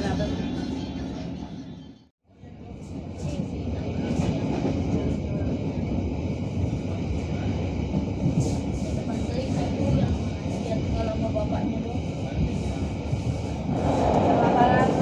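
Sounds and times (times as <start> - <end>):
train carriage rumbling on rails: 0.0 - 15.0.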